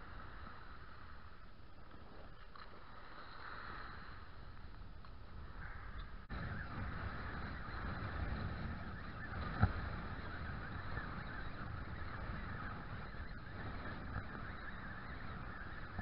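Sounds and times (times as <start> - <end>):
wind and sea at shoreline: 0.0 - 16.0.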